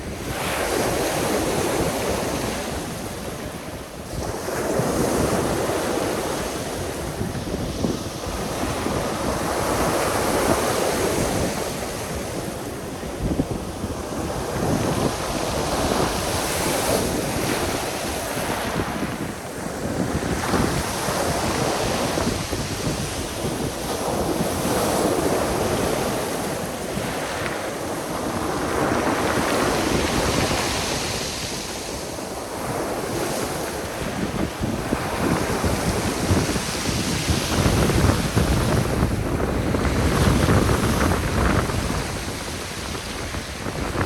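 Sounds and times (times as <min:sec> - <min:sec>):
sea waves breaking: 0:00.0 - 0:44.0
wind buffeting microphone: 0:00.0 - 0:44.0.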